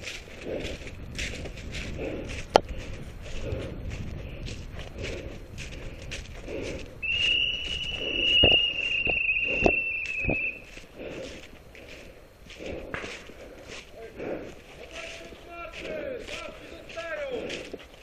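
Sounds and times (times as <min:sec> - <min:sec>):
footsteps running on dry leaves: 0:00.0 - 0:18.0.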